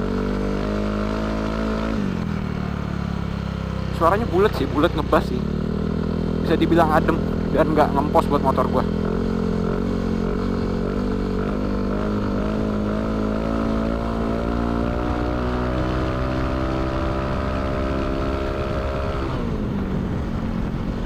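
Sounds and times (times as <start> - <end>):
scooter engine revving: 0.0 - 19.6.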